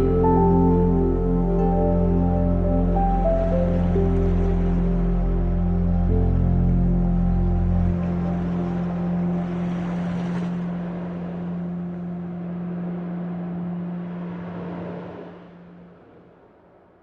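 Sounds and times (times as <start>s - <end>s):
ambient music drone: 0.0s - 16.6s.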